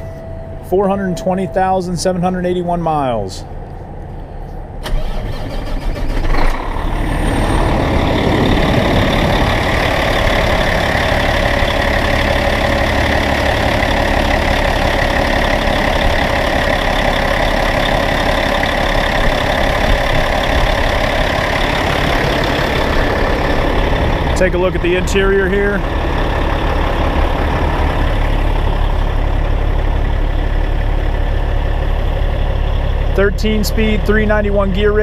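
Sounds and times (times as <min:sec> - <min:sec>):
diesel engine starting and idling: 0:00.0 - 0:35.0.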